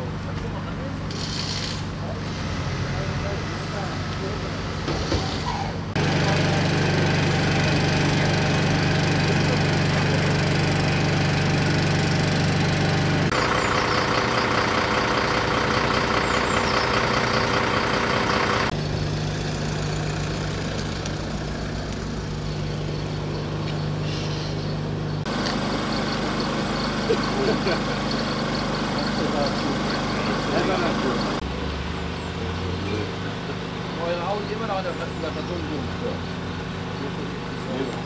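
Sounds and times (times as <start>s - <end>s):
running machinery: 0.0s - 31.6s
engines idling: 0.0s - 38.0s.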